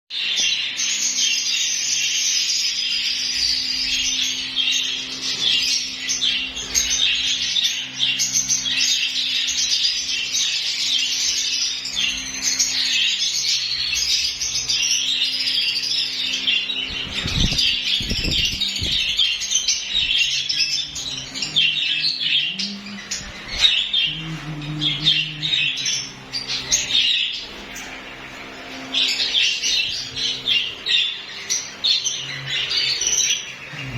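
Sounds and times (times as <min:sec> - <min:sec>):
lovebirds chirping and squawking: 0:00.1 - 0:33.9.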